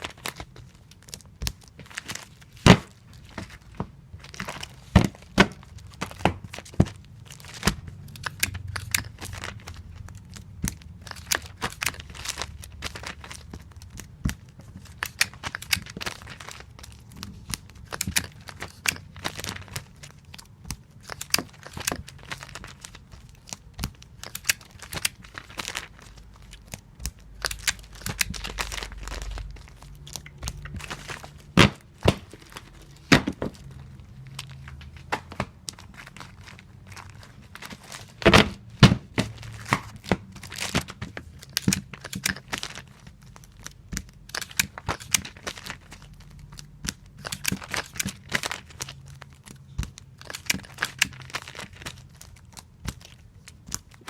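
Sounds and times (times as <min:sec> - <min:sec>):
tape crinkling: 0:00.0 - 0:54.0.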